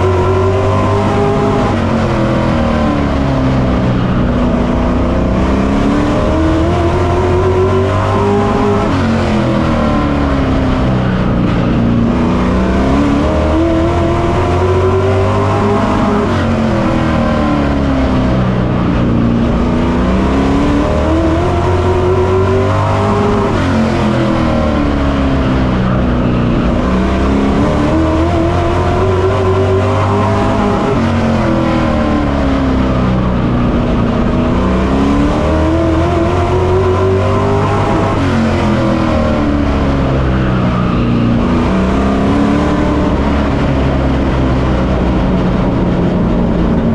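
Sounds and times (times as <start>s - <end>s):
race truck engine revving: 0.0s - 46.9s.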